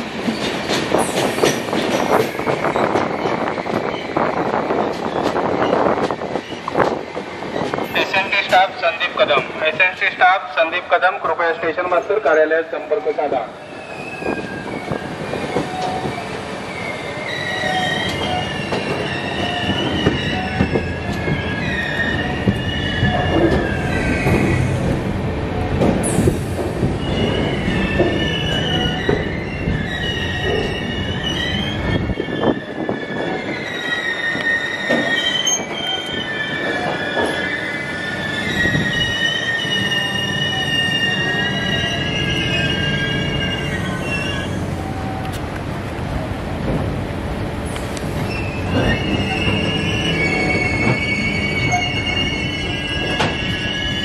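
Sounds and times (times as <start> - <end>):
train wheels squealing on rails: 0.0 - 9.7, 11.7 - 45.5, 47.6 - 54.0
train rumble: 0.0 - 54.0.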